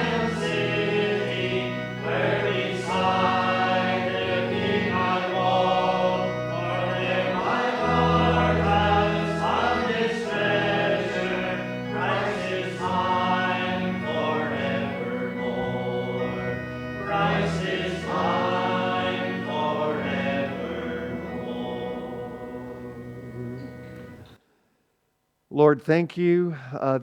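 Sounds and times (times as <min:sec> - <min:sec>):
group singing a hymn: 0:00.0 - 0:24.2.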